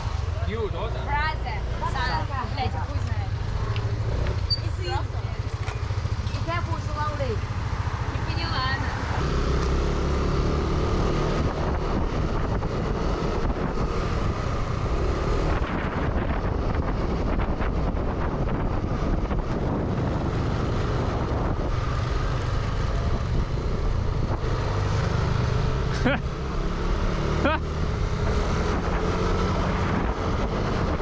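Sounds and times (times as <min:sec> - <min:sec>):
motorbike engine rumble: 0:00.0 - 0:31.0
wind buffeting microphone: 0:01.9 - 0:31.0.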